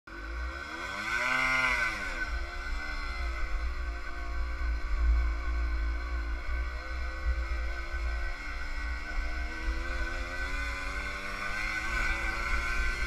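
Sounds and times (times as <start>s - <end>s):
two-stroke engine revving: 0.1s - 13.0s.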